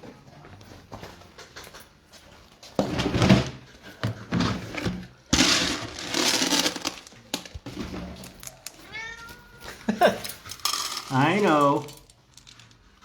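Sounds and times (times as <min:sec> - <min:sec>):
rustling and clattering: 0:01.2 - 0:08.9, 0:09.7 - 0:13.0.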